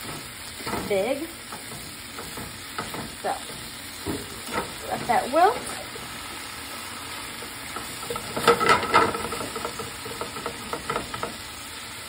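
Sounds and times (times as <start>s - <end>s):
spatula scraping a pan: 0.0s - 11.6s
leaves sizzling in a frying pan: 0.0s - 12.0s.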